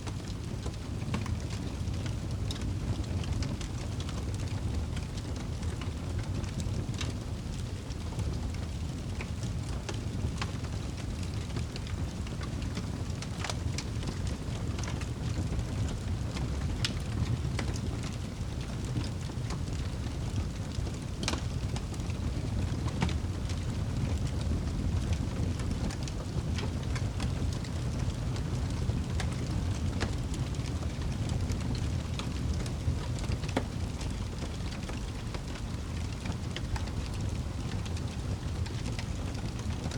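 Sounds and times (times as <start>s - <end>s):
low rumble of flames: 0.0s - 39.9s
fire popping and snapping: 0.1s - 39.9s.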